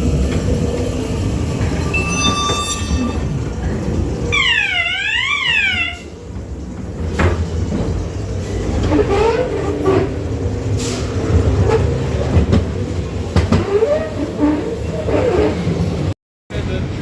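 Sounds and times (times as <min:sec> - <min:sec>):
ride car rumbling on track: 0:00.0 - 0:17.0.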